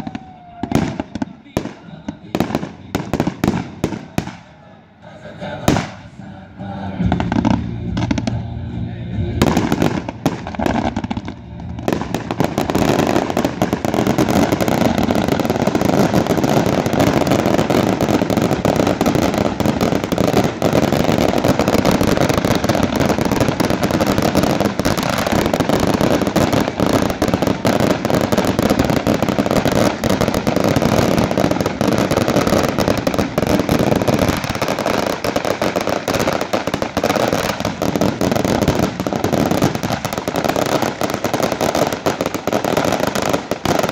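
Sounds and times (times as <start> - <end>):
fireworks firing and bursting: 0.0 - 43.9.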